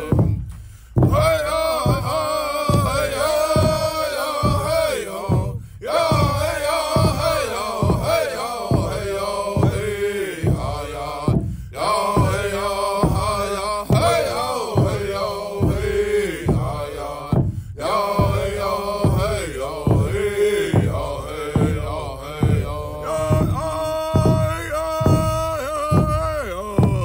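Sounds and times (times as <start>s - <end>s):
steady drum beat: 0.0s - 27.0s
person chanting: 1.0s - 27.0s.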